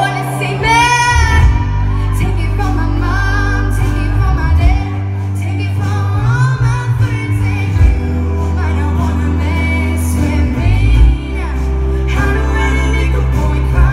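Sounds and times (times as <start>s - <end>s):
band playing: 0.0s - 13.9s
held bass notes: 0.0s - 13.9s
woman singing into a microphone: 0.0s - 13.9s.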